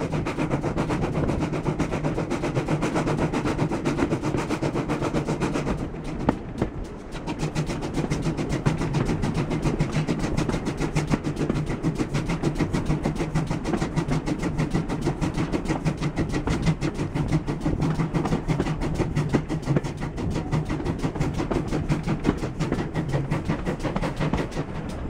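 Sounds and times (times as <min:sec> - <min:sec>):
coach wheels rumbling on rails: 0:00.0 - 0:25.0
steam locomotive exhaust chuffing: 0:00.0 - 0:25.0.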